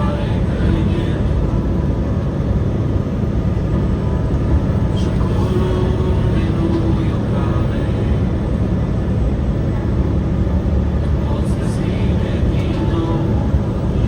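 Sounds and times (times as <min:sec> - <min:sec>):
truck engine and road noise: 0:00.0 - 0:14.0.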